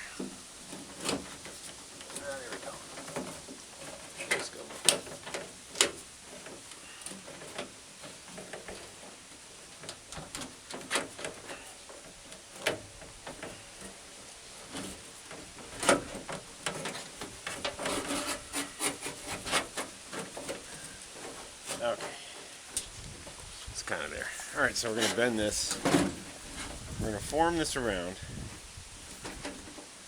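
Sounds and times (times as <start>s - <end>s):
rubbing and scraping: 0.0s - 30.0s.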